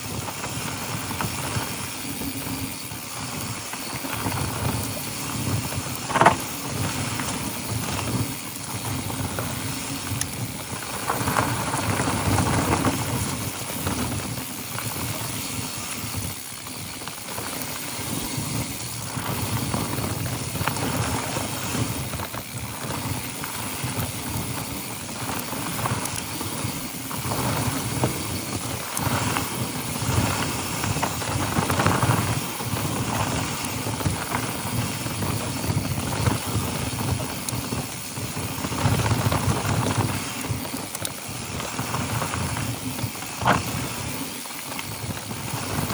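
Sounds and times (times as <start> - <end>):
bike rattling over bumps: 0.0 - 45.9
bike tyres rolling over dirt: 0.0 - 45.9.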